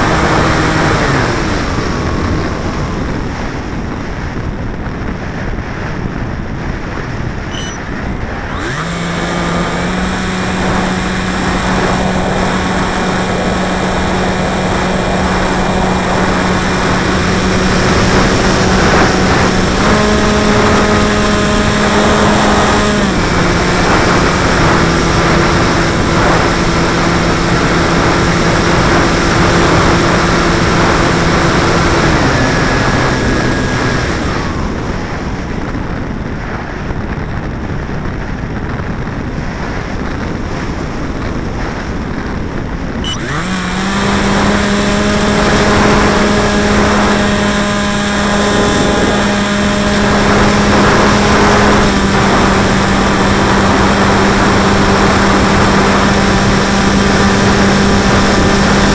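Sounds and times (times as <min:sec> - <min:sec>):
model aircraft motor droning: 0:00.0 - 0:03.8, 0:06.8 - 0:35.4, 0:40.6 - 0:58.9.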